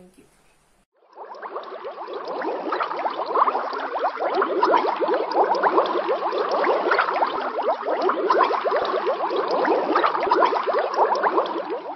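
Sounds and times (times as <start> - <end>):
water bubbling and gurgling: 1.0 - 11.9.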